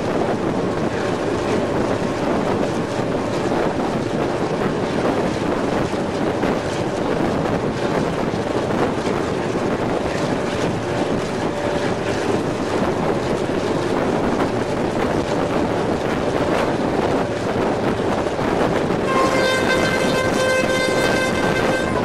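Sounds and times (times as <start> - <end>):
diesel locomotive running: 0.0 - 22.0
wind on microphone: 0.0 - 22.0.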